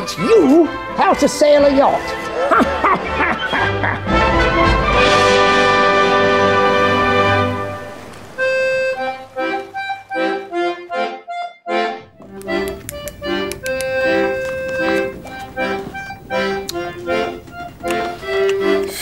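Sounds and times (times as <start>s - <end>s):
accordion music: 0.0s - 19.0s.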